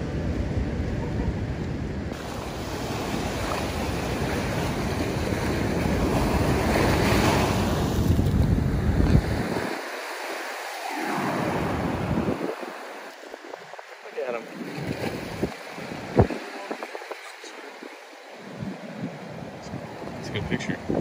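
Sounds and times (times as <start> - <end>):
ocean surf breaking: 0.0 - 21.0
wind buffeting the microphone: 0.0 - 21.0.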